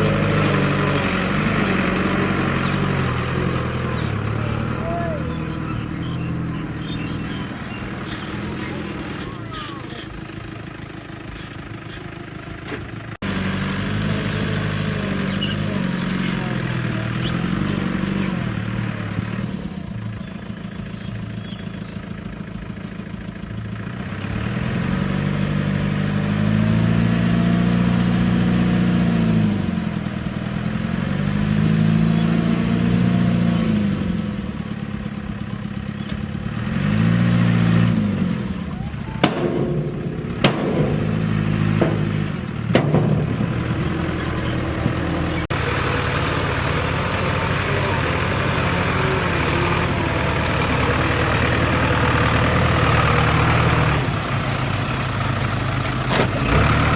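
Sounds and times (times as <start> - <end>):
heavy diesel engine revving: 0.0 - 56.9.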